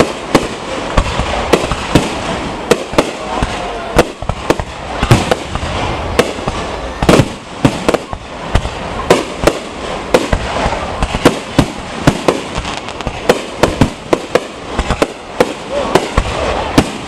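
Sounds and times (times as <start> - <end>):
fireworks bursting: 0.0 - 17.0
heavy firework boom: 0.0 - 17.0.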